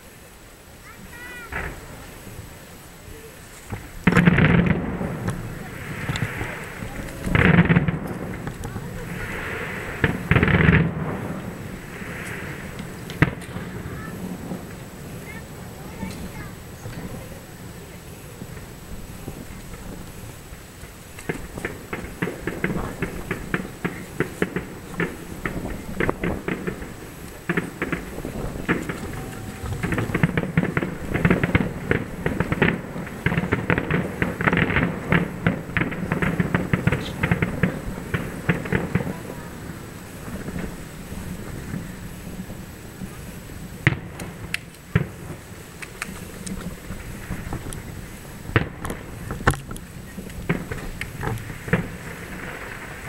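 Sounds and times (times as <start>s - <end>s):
distant fireworks pops and bangs: 0.8s - 53.0s.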